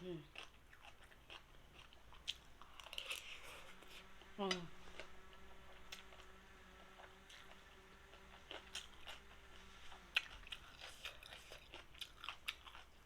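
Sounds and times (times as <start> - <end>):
faint steady hum: 0.0 - 13.0
person chewing food: 0.0 - 13.0.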